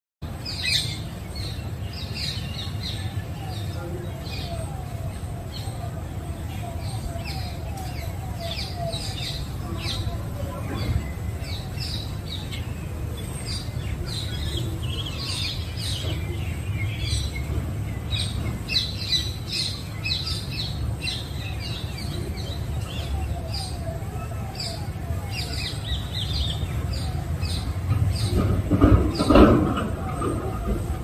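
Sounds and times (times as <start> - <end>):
birds chirping and squawking: 0.3 - 31.0.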